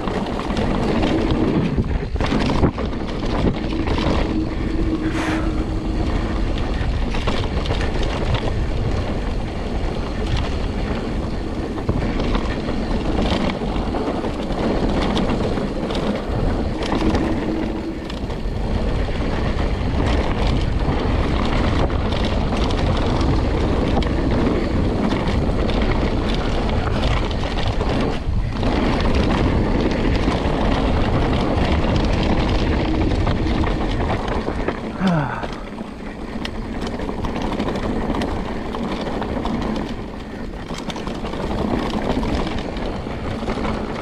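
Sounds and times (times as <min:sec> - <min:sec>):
bike rattling: 0:00.0 - 0:44.0
tyres on dirt: 0:00.0 - 0:44.0
wind buffeting microphone: 0:00.0 - 0:44.0.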